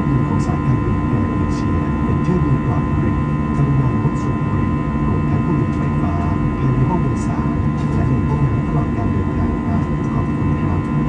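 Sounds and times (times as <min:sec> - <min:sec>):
jet cabin engine rumble: 0:00.0 - 0:11.0
steady hum tone: 0:00.0 - 0:11.0.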